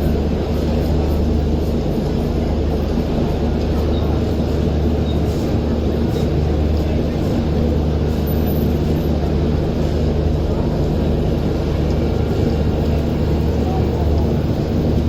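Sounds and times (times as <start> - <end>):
steady hum: 0.0 - 15.0
train rumbling: 0.0 - 15.0.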